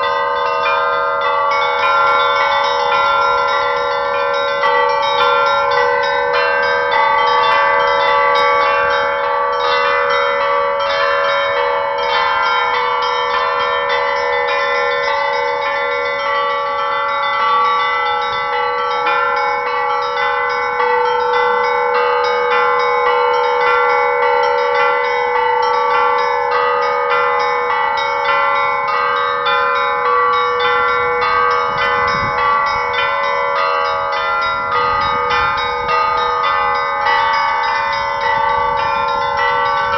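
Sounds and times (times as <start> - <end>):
large bells ringing: 0.0 - 39.9
small bells striking rapidly: 0.0 - 39.9.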